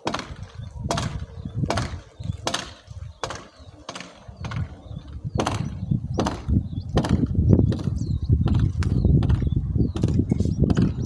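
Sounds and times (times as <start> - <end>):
low rumble: 0.2 - 11.0.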